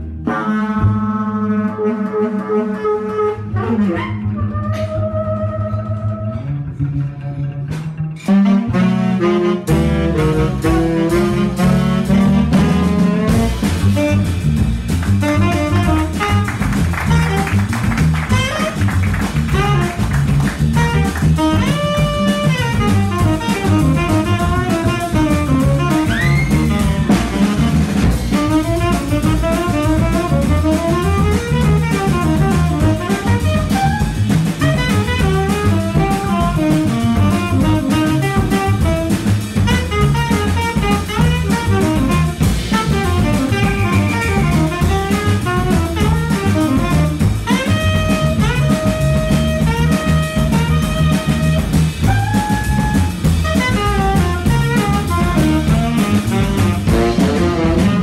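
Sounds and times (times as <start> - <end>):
double bass: 0.0 - 58.0
tenor saxophone solo: 0.2 - 6.5, 8.2 - 58.0
drum kit: 7.6 - 58.0.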